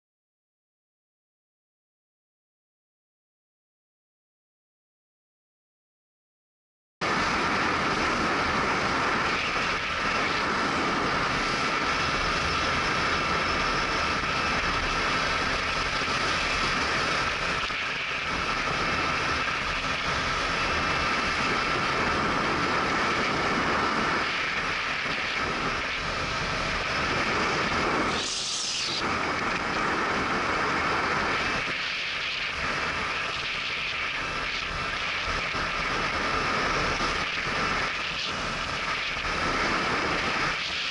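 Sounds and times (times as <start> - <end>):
rush of high-pitched noise: 7.0 - 40.9
wind and road noise: 7.0 - 40.9.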